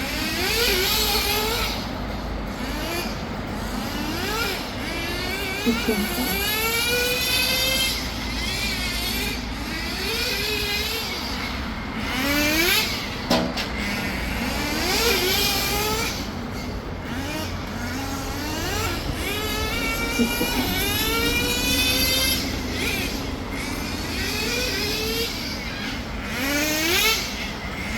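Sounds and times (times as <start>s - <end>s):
rc car engine whining: 0.0s - 27.9s.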